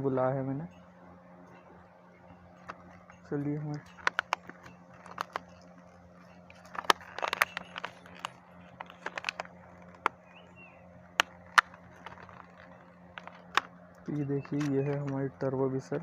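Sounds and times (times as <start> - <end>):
faint steady hum: 0.0 - 16.0
packaging clicks and crackles: 2.2 - 15.2.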